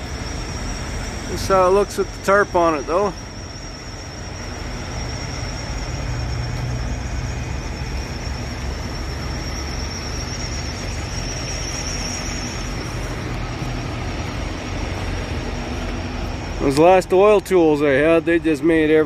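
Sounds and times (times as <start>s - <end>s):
low engine rumble: 0.0s - 19.0s
thin high whine: 0.0s - 19.0s.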